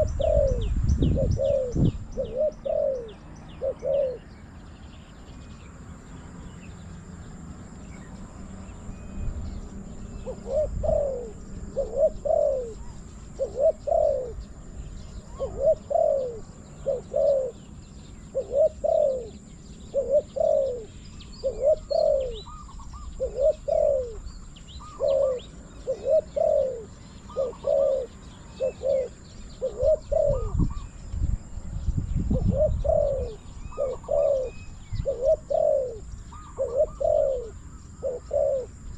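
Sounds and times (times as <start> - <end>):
doves cooing: 0.0 - 4.6, 10.0 - 31.0, 32.3 - 38.9
wind rumble on microphone: 0.0 - 38.9.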